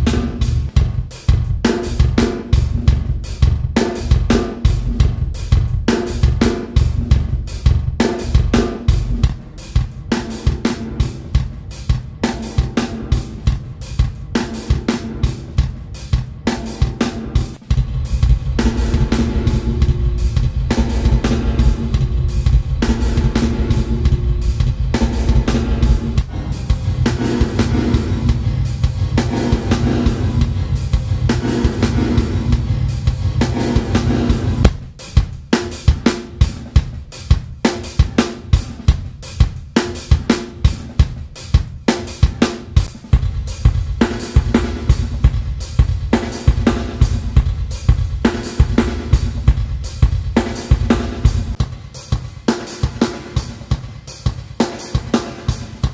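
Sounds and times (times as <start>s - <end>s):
drum kit with reverb: 0.0s - 55.9s.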